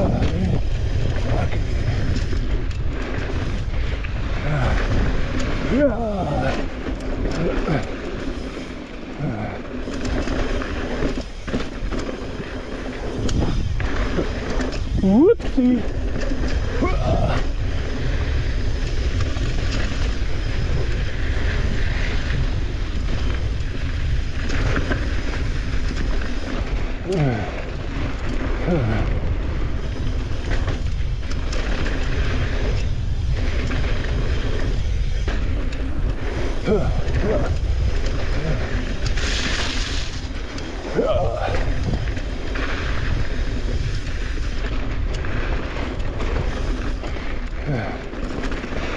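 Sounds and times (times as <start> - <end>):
bike rattling over bumps: 0.0 - 48.9
bike tyres on loose dirt: 0.0 - 48.9
wind buffeting microphone: 0.0 - 48.9.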